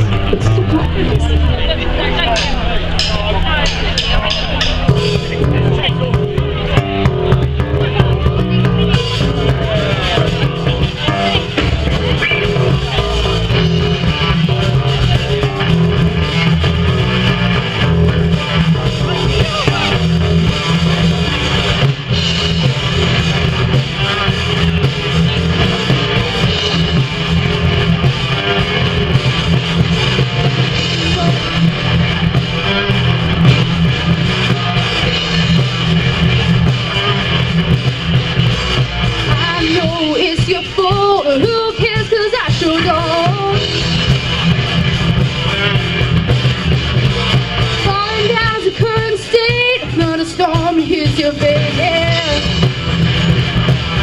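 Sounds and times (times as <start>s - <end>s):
electric guitar: 0.0s - 54.0s
rock band playing: 0.0s - 54.0s.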